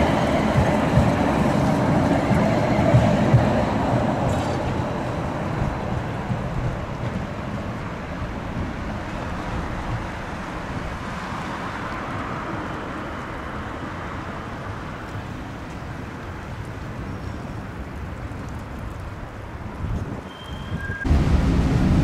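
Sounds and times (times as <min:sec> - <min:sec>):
traffic noise: 0:00.0 - 0:22.0
tram rolling along track: 0:00.0 - 0:22.0
wind rumbling on microphone: 0:00.0 - 0:22.0.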